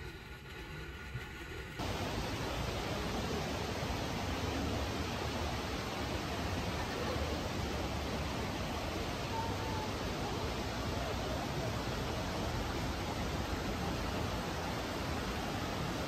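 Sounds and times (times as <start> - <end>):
steady outdoor rushing hiss: 1.5 - 16.0.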